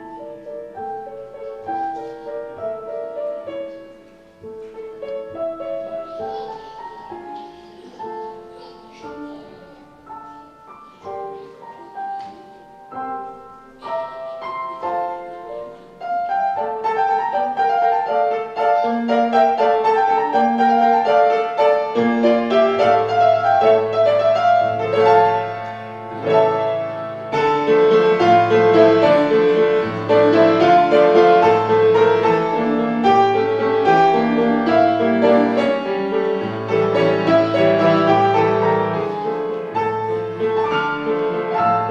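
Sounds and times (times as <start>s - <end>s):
slow piano piece: 0.0s - 41.9s.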